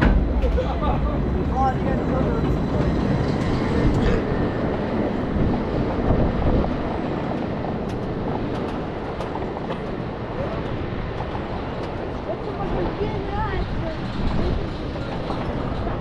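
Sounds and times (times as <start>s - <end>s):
roller coaster lift rumble: 0.0s - 16.0s.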